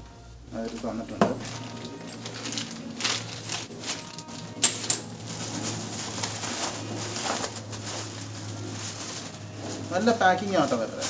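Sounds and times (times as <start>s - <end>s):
plastic film rustling and crinkling: 0.0s - 11.0s.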